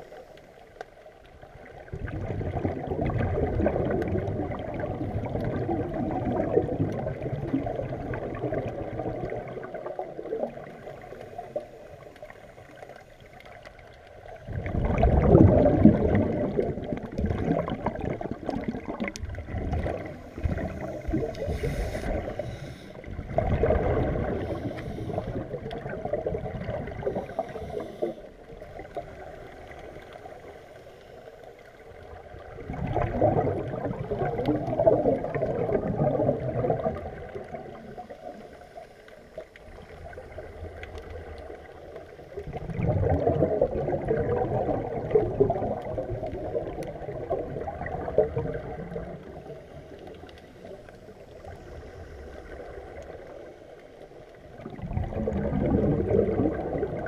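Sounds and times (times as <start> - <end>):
underwater exhaled air bubbling: 0.0 - 57.0.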